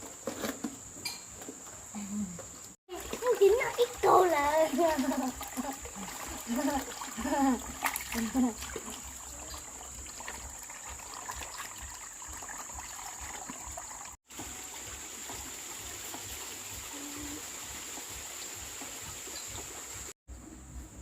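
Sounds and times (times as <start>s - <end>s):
water trickling: 2.9s - 20.2s.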